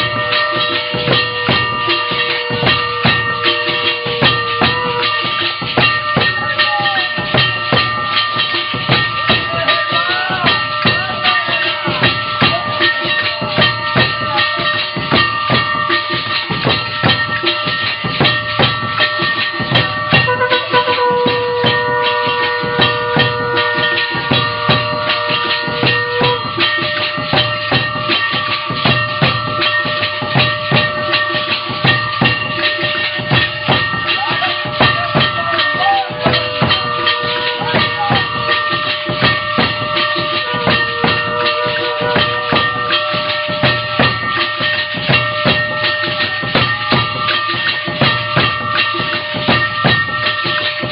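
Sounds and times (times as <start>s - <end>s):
cymbal strokes: 0.0s - 50.9s
fast drum strokes: 0.0s - 50.9s
ringing bell tones: 0.0s - 50.9s.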